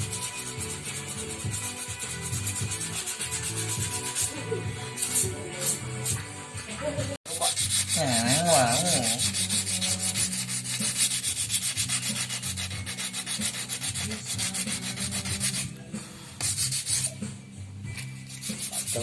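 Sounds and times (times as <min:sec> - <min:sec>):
sandpaper rubbing on metal: 0:00.0 - 0:06.2, 0:07.3 - 0:17.2, 0:18.0 - 0:19.0.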